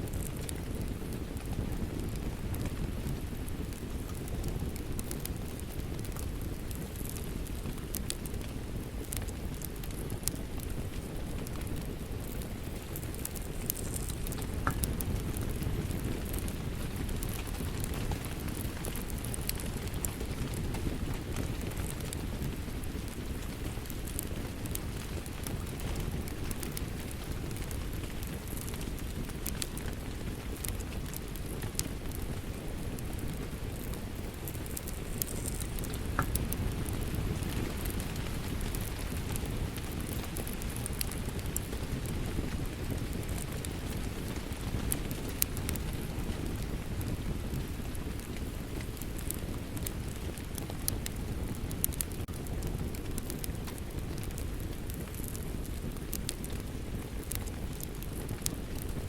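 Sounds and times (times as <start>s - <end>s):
steady rush of rain: 0.0s - 59.0s
wood fire crackling and popping: 0.0s - 59.0s.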